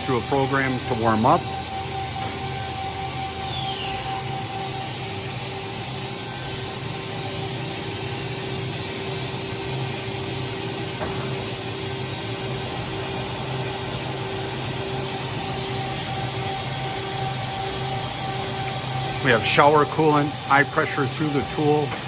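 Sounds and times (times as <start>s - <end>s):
even hiss: 0.0s - 22.0s
machine hum with constant tones: 0.0s - 22.0s.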